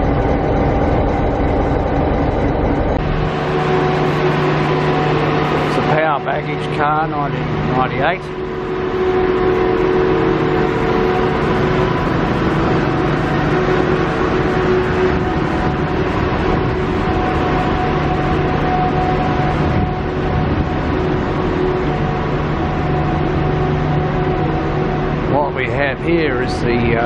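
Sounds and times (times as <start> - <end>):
diesel train idling drone: 0.0 - 27.0
held humming tones: 0.0 - 27.0.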